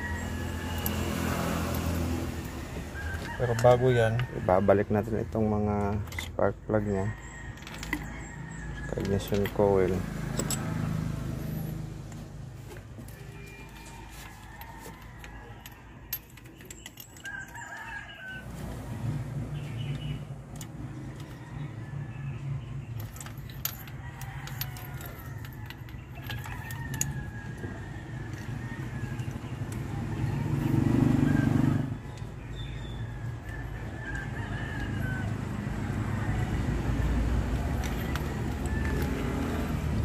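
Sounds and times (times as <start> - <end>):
roosters crowing: 0.0 - 40.0.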